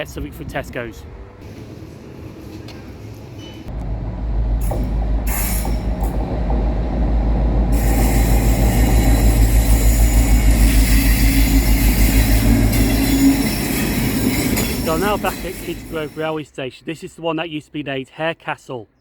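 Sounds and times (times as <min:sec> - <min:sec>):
train rumbling: 0:00.0 - 0:16.4.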